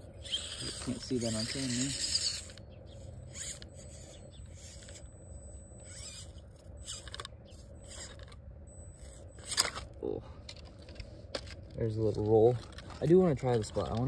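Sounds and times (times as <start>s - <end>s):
tires scrabbling on stone: 0.0s - 5.2s, 5.8s - 14.0s
electric motor and gears whirring: 0.0s - 14.0s.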